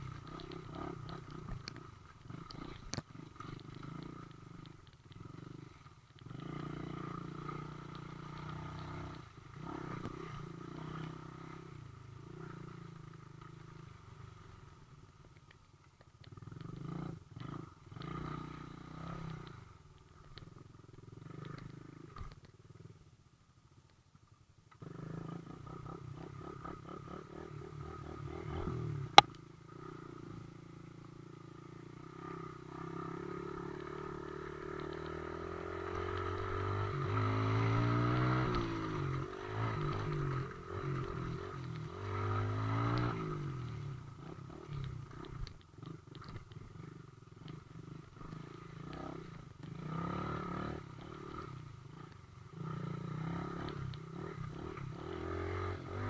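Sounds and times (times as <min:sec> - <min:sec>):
off-road vehicle engines: 0:00.0 - 0:56.0.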